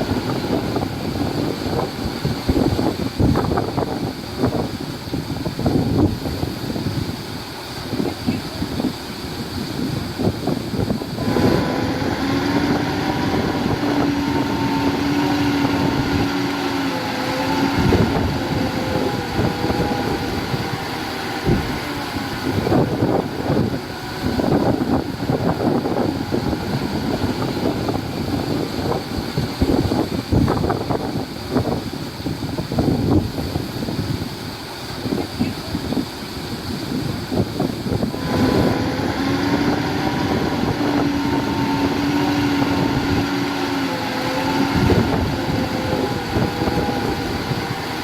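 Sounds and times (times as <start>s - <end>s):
heavy machinery engines running: 0.0s - 48.0s
steady pitched whine: 0.0s - 48.0s
wind buffeting the microphone: 0.0s - 48.0s.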